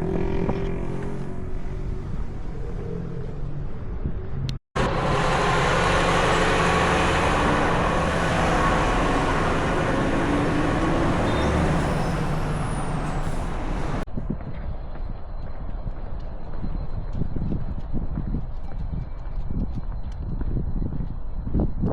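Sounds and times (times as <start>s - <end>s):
vehicle in motion: 0.0s - 21.6s.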